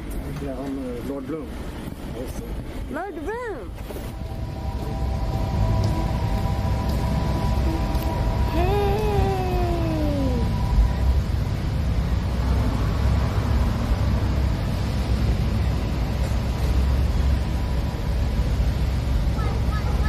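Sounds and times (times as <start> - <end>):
low rumble: 3.9 - 20.0.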